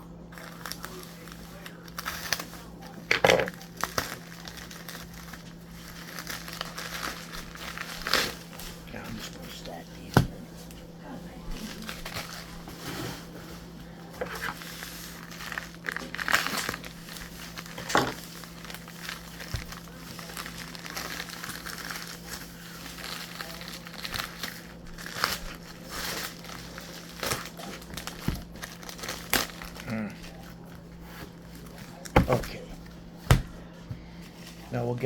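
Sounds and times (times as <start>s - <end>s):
steady low hum: 0.0s - 35.0s
packaging crinkling and rustling: 0.3s - 10.8s, 11.6s - 33.5s.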